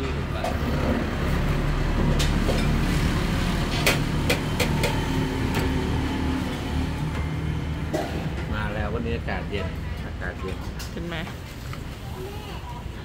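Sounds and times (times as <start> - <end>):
passing traffic hum: 0.0 - 13.0.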